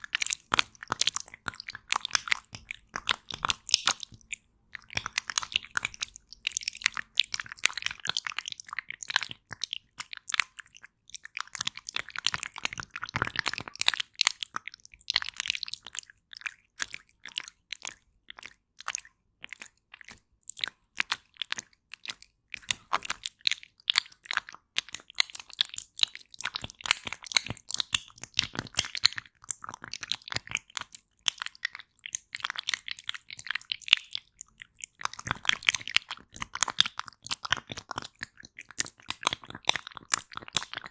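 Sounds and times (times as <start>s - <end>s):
sticky gel squishing: 0.0s - 40.9s.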